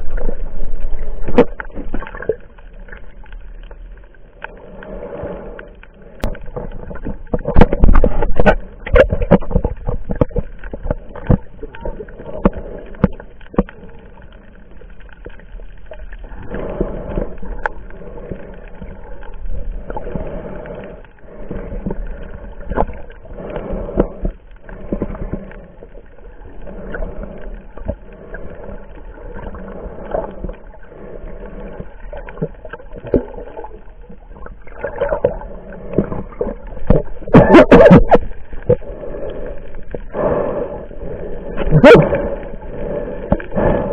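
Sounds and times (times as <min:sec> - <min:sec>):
muffled underwater sloshing: 0:00.0 - 0:43.9.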